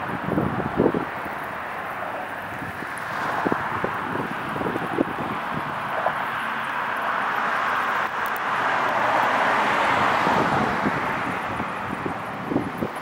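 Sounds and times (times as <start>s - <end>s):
low traffic rumble: 0.0s - 13.0s
vehicle passing: 0.0s - 13.0s.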